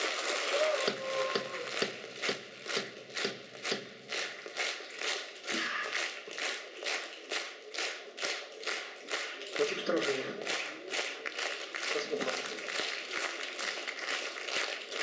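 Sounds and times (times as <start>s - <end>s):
audience clapping in unison: 0.0s - 15.0s.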